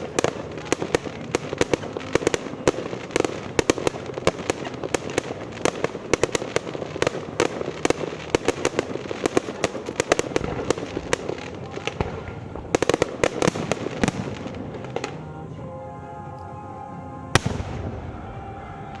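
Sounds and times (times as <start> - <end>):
fireworks bangs and cracks: 0.0 - 15.2, 17.3 - 18.3.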